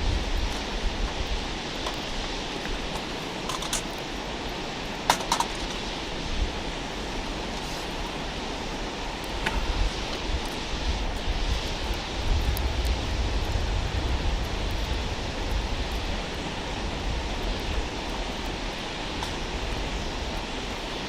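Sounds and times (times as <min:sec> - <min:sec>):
campfire hissing: 0:00.0 - 0:21.0
sharp fire crackles: 0:00.0 - 0:21.0
wind rumble on microphone: 0:00.0 - 0:21.0.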